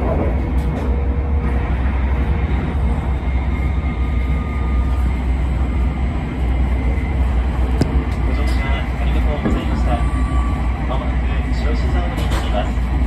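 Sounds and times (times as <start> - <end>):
train rumble inside cabin: 0.0 - 13.0.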